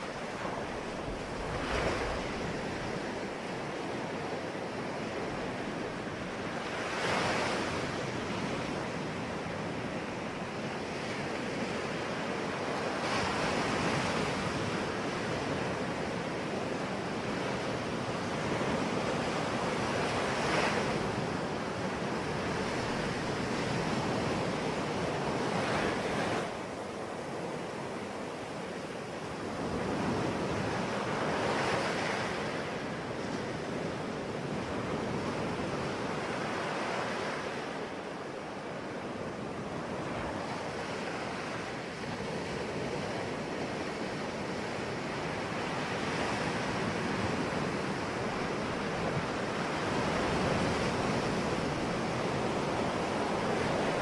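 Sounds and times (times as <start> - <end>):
wind noise on microphone: 0.0 - 37.8, 39.2 - 54.0
ocean waves breaking on shore: 0.0 - 54.0.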